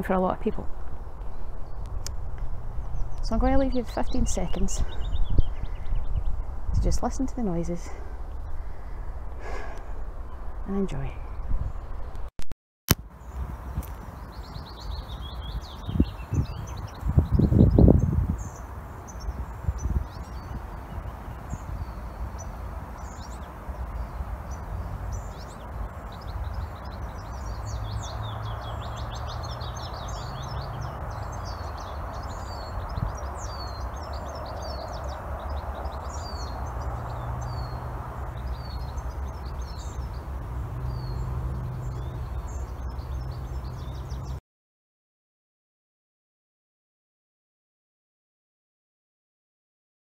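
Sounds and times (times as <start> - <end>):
songbirds chirping and trilling: 0.0 - 12.3, 13.0 - 44.4.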